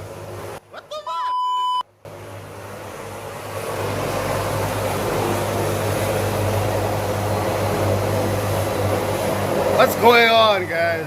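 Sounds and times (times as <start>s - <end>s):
helicopter rotor and engine: 2.1s - 11.0s.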